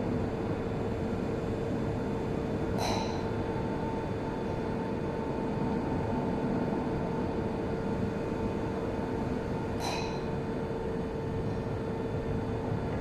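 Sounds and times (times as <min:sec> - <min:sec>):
mid-pitched whine: 0:00.0 - 0:13.0.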